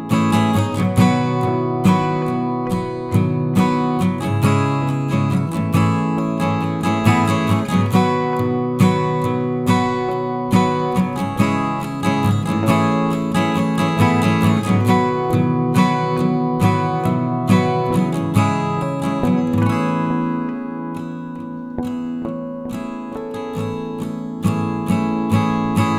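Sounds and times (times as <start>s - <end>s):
acoustic guitar music with beat: 0.0s - 25.9s.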